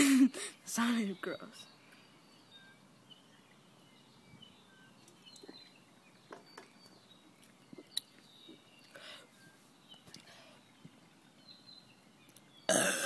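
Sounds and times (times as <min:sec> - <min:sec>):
faint bird chirps: 0:00.2 - 0:12.8.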